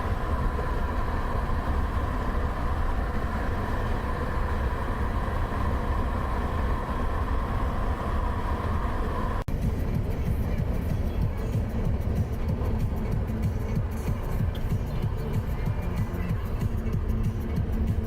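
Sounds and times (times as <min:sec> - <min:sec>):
car road and engine rumble: 0:00.0 - 0:18.0
faint steady whine: 0:00.0 - 0:18.0.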